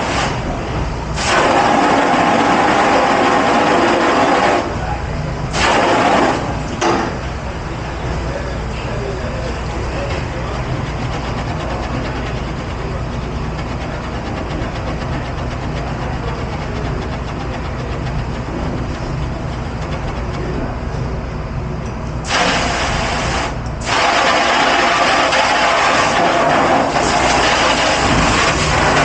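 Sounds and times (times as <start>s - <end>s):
kitchen machinery humming: 0.0s - 29.0s.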